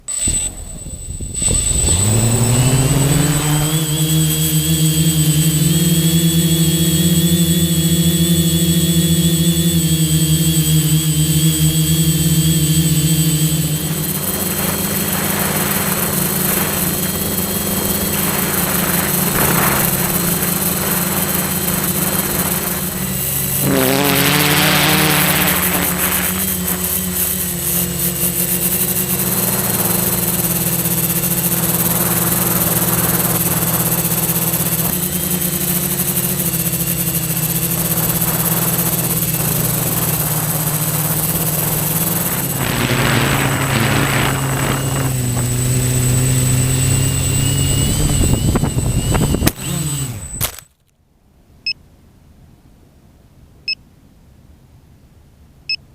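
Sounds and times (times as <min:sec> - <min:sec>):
quadcopter motors buzzing: 0:00.0 - 0:50.8.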